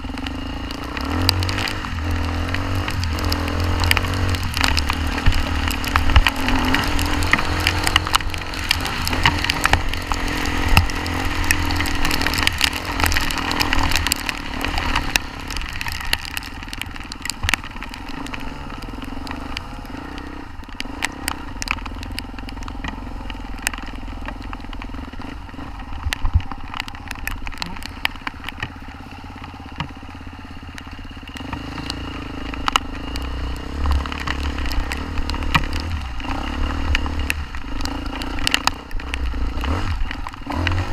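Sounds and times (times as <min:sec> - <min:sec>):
crackle and clatter of knocks: 0:00.0 - 0:40.9
motorcycle engine running: 0:00.0 - 0:40.9.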